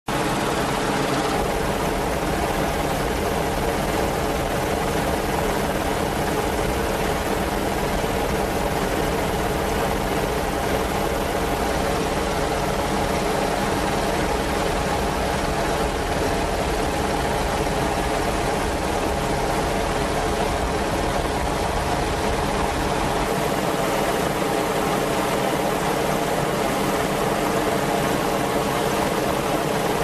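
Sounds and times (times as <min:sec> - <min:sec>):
helicopter turbines and rotors: 0:00.1 - 0:30.0.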